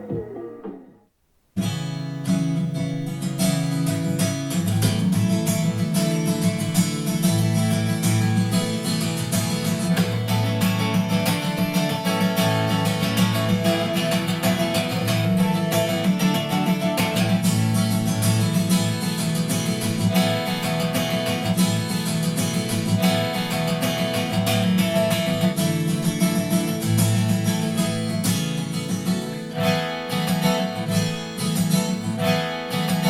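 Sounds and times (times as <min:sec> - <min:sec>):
strummed acoustic guitar music: 0:00.0 - 0:33.0.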